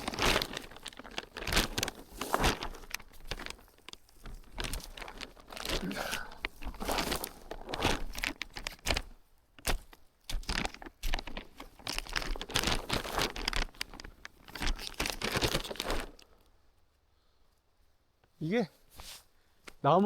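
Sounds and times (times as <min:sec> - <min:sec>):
dry leaves and twigs crunching: 0:00.0 - 0:16.4.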